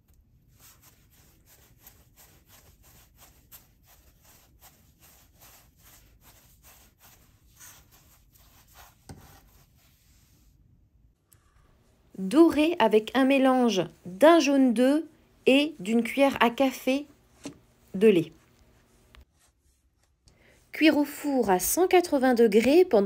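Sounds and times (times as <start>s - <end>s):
hands rubbing bread dough: 0.0s - 10.8s, 12.2s - 23.0s.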